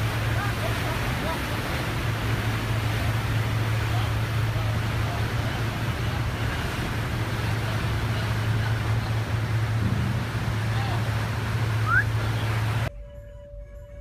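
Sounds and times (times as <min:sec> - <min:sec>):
churning water: 0:00.0 - 0:12.9
ship engines humming: 0:00.0 - 0:12.9
wind: 0:00.0 - 0:14.0.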